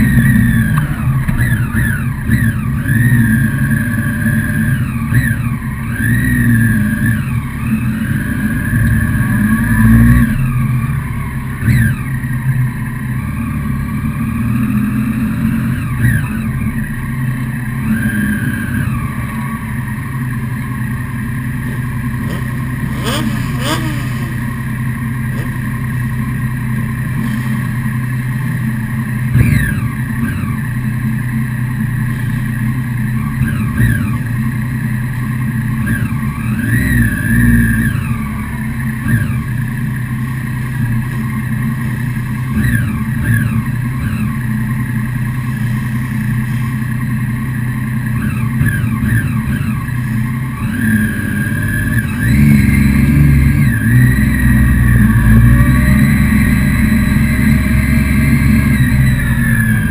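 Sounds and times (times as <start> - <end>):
motorcycle engines idling and revving: 0.0 - 59.9
motorcycles pulling away: 0.0 - 59.9.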